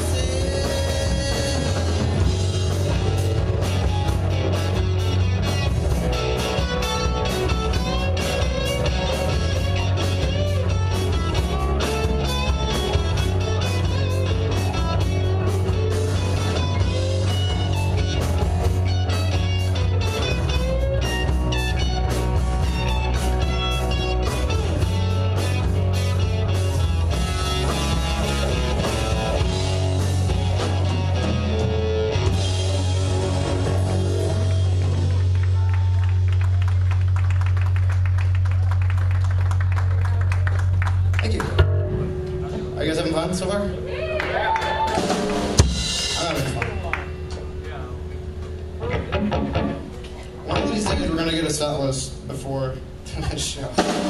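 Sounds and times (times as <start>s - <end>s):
electric guitar: 0.0s - 51.4s
bass guitar: 0.0s - 54.0s
drums: 0.0s - 54.0s.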